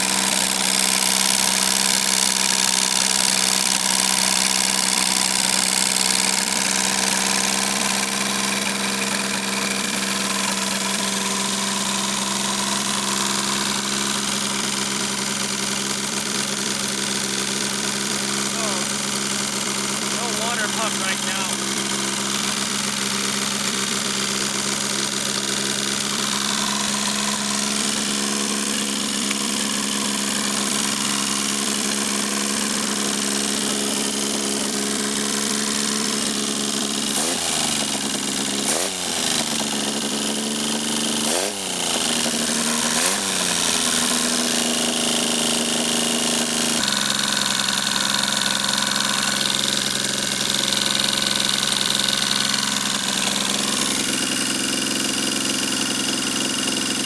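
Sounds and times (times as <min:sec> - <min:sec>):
engine idling with speed dips: 0:00.0 - 0:57.0.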